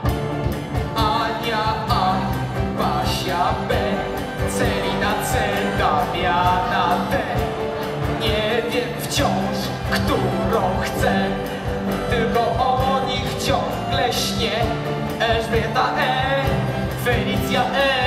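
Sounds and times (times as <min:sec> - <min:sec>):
person singing: 0:00.0 - 0:18.0
song with steady beat: 0:00.0 - 0:18.0.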